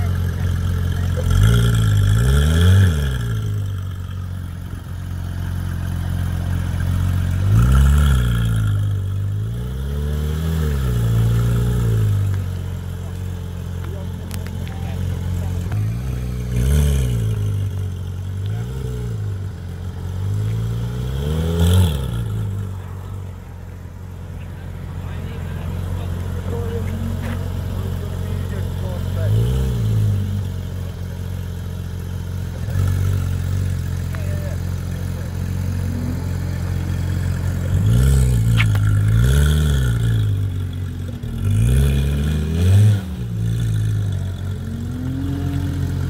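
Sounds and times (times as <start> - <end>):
car engine revving in blips: 0.0 - 46.0.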